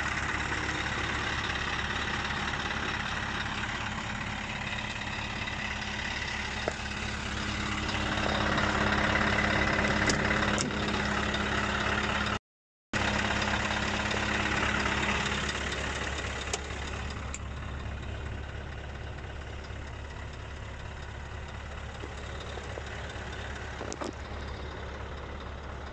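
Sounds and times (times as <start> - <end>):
diesel engine idling: 0.0 - 12.4, 13.0 - 25.9.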